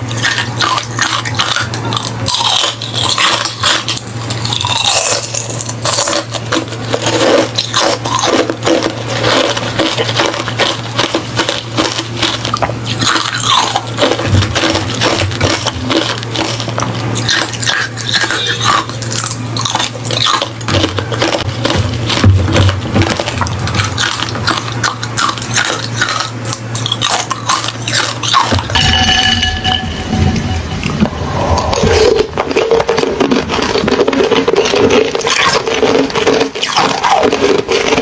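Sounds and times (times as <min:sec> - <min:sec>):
chewing crunchy ice: 0:00.0 - 0:29.0, 0:31.5 - 0:38.0.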